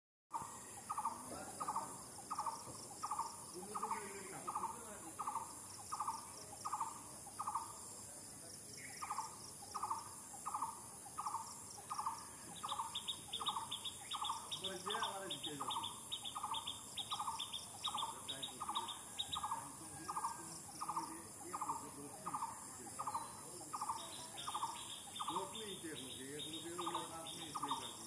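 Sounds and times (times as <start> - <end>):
high insect drone: 0.3 - 28.0.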